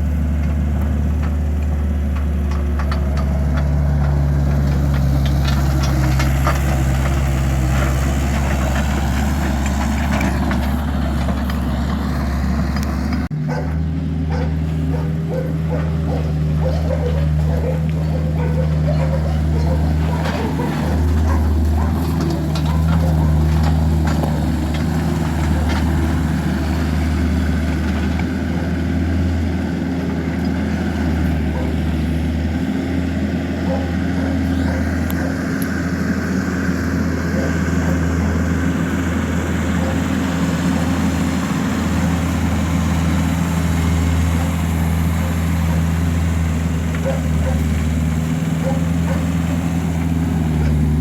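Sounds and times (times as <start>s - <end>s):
engine droning: 0.0s - 51.0s.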